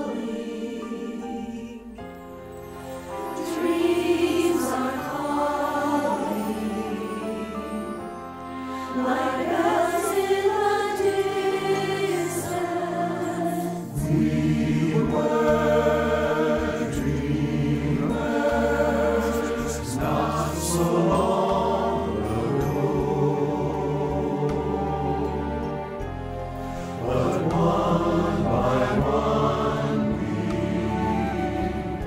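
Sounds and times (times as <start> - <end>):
choir singing in harmony: 0.0 - 32.0.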